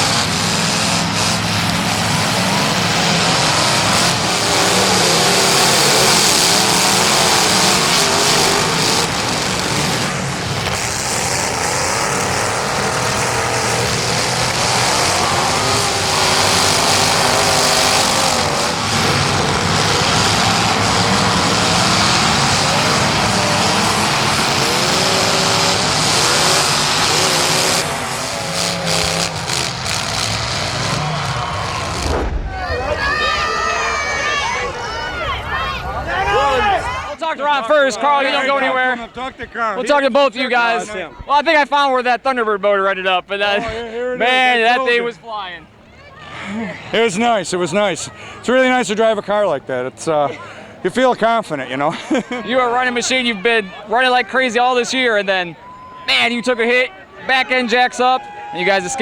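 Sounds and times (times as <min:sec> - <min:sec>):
car engines revving: 0:00.0 - 0:59.0
track noise: 0:00.0 - 0:59.0.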